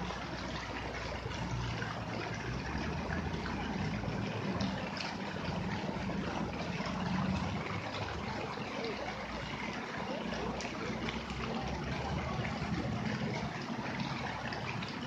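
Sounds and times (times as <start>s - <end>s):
fountain jets splashing: 0.0s - 15.0s.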